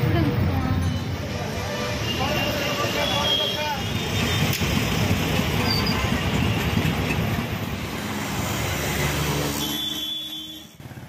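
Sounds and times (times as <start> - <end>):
bus running: 0.0 - 11.0
cars: 0.0 - 11.0.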